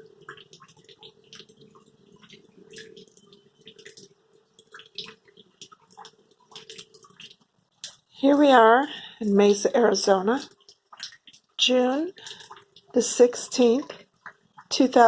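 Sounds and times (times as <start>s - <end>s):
faint steady hum: 0.0s - 15.0s
rain drops dripping: 0.0s - 15.0s.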